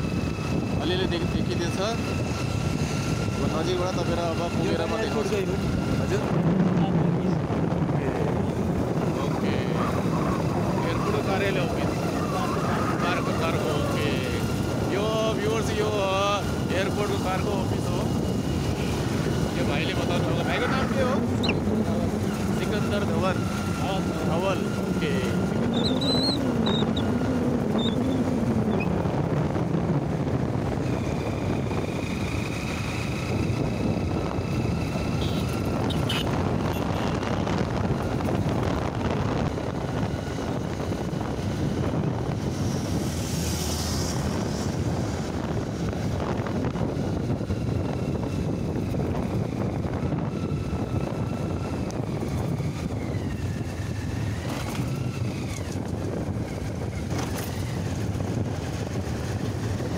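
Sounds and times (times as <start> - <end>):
motorcycle engine: 0.0 - 59.9
road noise: 0.0 - 59.9
wind rushing over microphone: 0.0 - 59.9.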